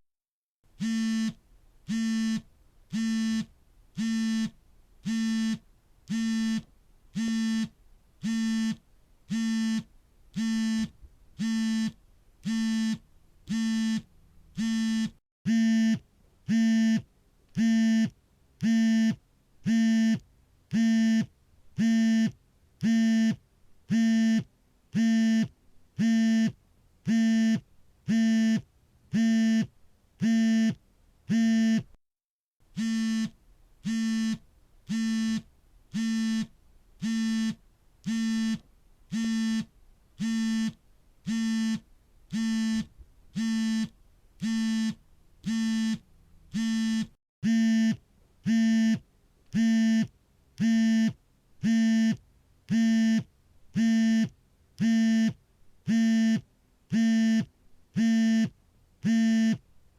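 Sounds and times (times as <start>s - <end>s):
smartphone vibrating: 0.8s - 31.9s, 32.7s - 49.0s, 49.6s - 59.6s.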